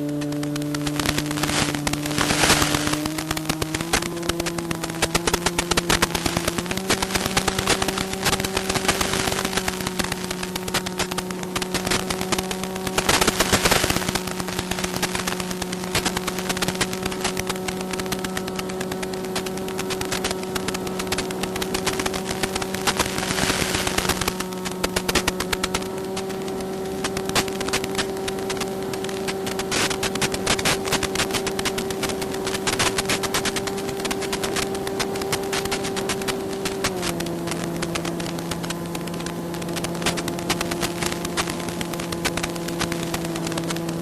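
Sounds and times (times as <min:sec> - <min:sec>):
constant crackling: 0:00.0 - 0:44.0
electric motor and propeller hum: 0:00.0 - 0:44.0.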